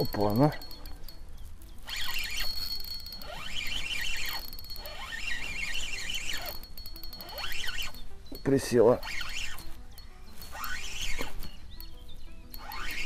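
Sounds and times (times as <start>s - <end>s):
fishing reel drag ratcheting: 0.0s - 1.1s, 1.8s - 11.6s, 12.5s - 13.0s.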